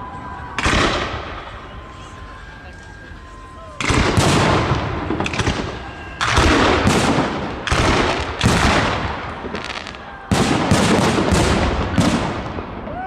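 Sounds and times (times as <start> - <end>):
fireworks bangs with rumbling echo: 0.0 - 13.0.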